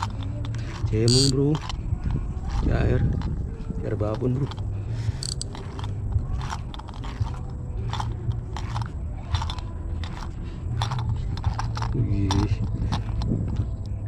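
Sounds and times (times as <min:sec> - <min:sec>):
crunchy clicks of fishing reel: 0:00.0 - 0:01.8, 0:04.3 - 0:14.0
steady low rumble: 0:00.0 - 0:14.0.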